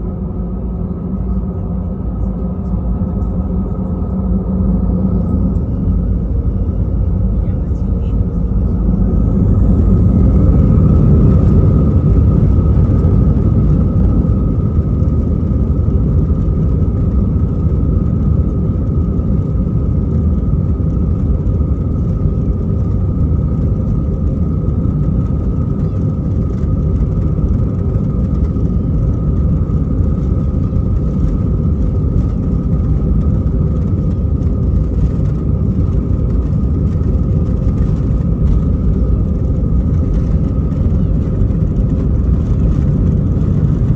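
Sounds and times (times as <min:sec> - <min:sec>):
engine fan whine: 0:00.0 - 0:43.9
jet engine drone in cabin: 0:00.0 - 0:43.9.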